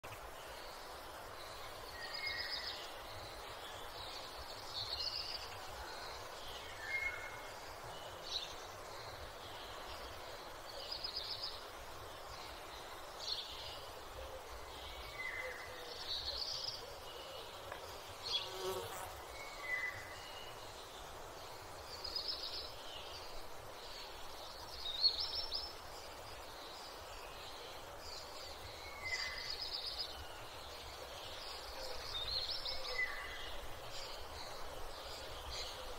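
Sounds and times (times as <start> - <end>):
steady background hiss: 0.0 - 35.9.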